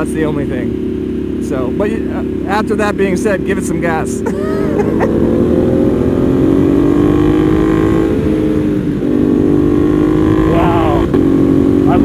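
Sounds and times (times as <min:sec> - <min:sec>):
motorcycles accelerating: 0:00.0 - 0:12.0.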